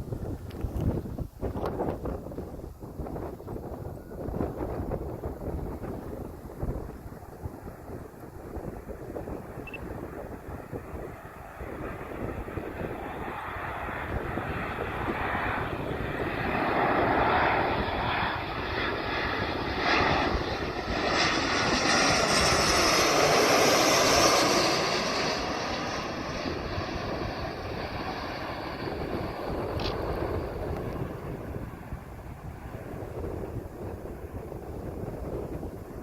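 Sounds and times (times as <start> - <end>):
airplane engines passing: 1.5 - 36.0.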